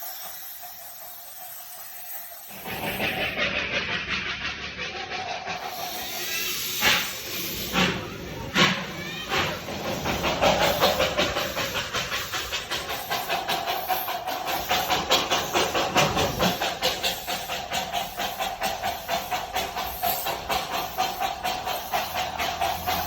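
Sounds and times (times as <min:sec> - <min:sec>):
steady steam hiss: 0:00.0 - 0:23.0
steam locomotive chuffing: 0:00.0 - 0:23.0.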